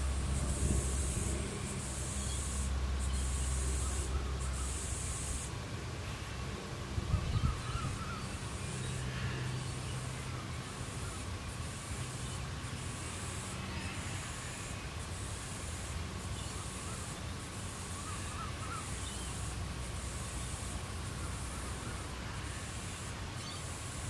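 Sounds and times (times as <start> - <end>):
pulsing high insect buzz: 0.0 - 6.3, 7.4 - 24.0.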